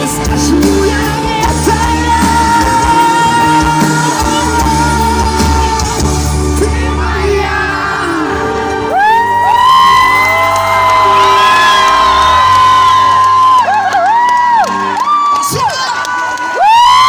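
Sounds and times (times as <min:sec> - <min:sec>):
live pop-rock band: 0:00.0 - 0:15.6.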